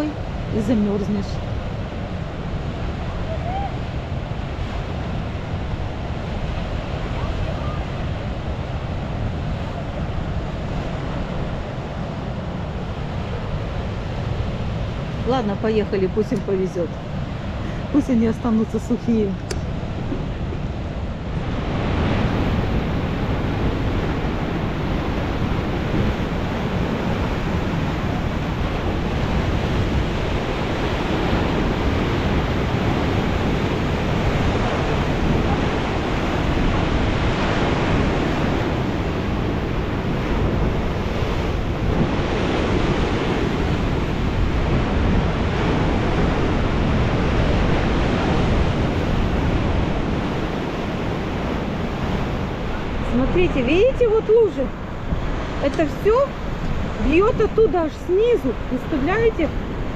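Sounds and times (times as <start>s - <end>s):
surf breaking on beach: 0.0s - 59.9s
wind buffeting microphone: 0.0s - 59.9s.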